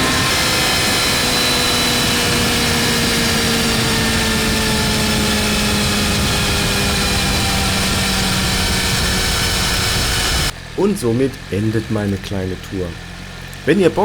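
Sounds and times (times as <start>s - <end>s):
motorcycle engine running at speed: 0.0s - 14.0s.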